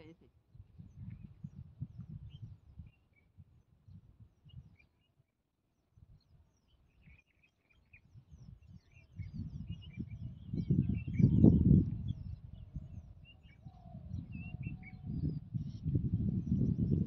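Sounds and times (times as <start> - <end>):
wind gusts on microphone: 0.0 - 4.9, 7.9 - 17.0
small birds chirping: 0.0 - 17.0.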